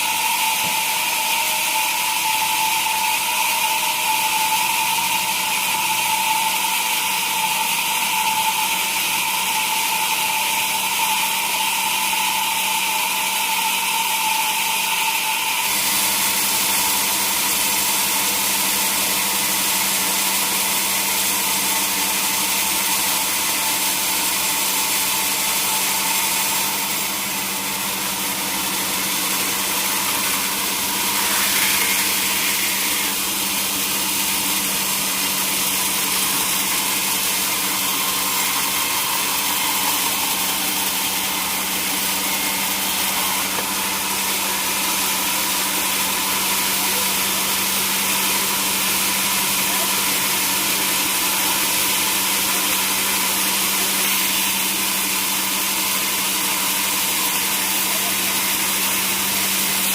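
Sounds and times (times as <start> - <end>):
sawmill machinery humming and hissing: 0.0 - 59.9.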